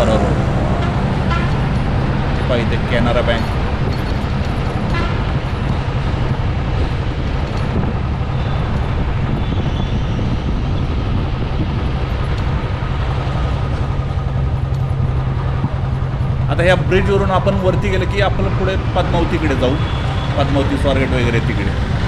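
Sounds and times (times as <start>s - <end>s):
low engine drone: 0.0s - 22.0s
vehicle road noise: 0.0s - 22.0s
wind rumble on microphone: 0.0s - 22.0s.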